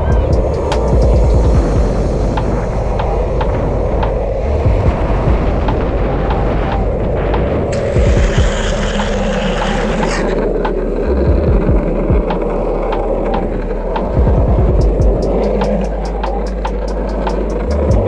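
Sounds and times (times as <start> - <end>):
skateboard wheels on asphalt: 0.0 - 18.0
wind rushing over helmet camera: 0.0 - 18.0.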